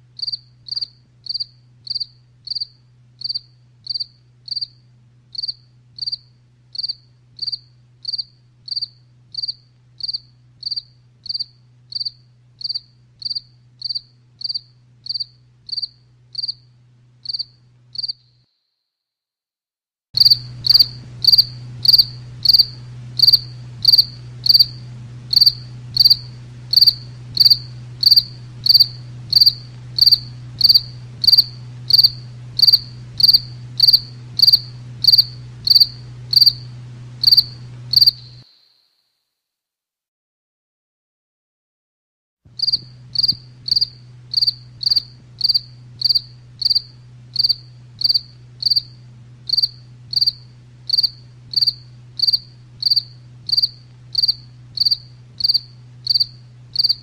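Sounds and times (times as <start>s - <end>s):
low steady hum: 0.0s - 18.4s, 20.2s - 38.4s, 42.5s - 57.0s
cricket chirping: 0.2s - 18.4s, 20.2s - 39.1s, 42.6s - 57.0s.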